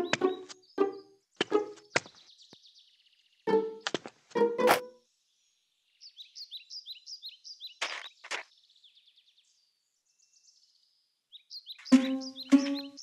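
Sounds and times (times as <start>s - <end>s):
birds twittering: 0.0s - 4.0s, 5.1s - 13.0s.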